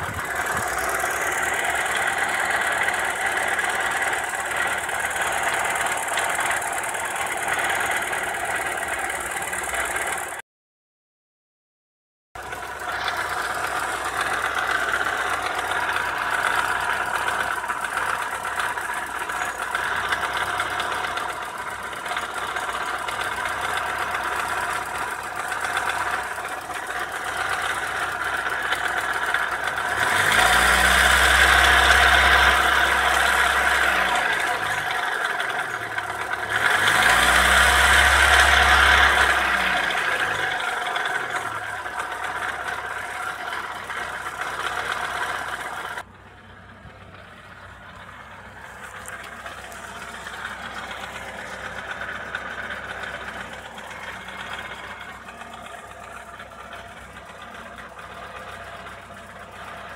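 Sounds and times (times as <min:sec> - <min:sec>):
car engine whirring and knocking: 0:00.0 - 0:10.4, 0:12.4 - 0:59.9.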